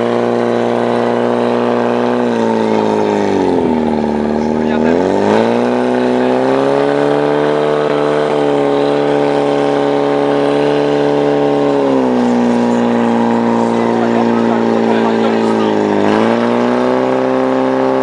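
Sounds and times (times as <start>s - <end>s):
pump engine running at high revs: 0.0s - 18.0s.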